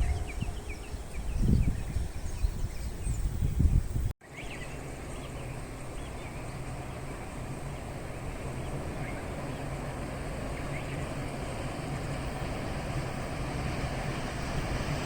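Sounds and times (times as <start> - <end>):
birds chirping: 0.0 - 12.5
wind buffeting microphone: 0.0 - 15.0.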